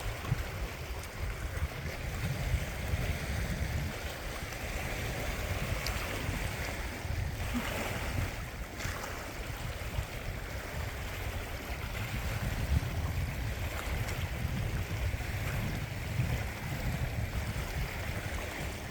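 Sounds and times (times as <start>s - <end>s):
lake water washing: 0.0s - 18.9s
wind on microphone: 0.0s - 18.9s.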